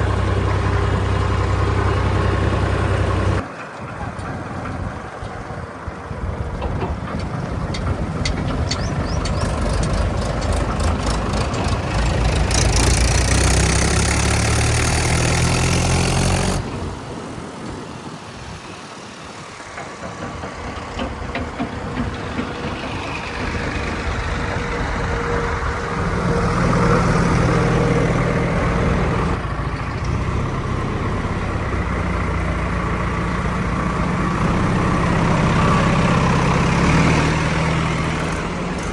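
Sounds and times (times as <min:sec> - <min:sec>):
heavy diesel engine revving: 0:00.0 - 0:03.4, 0:07.0 - 0:17.5, 0:20.0 - 0:38.9.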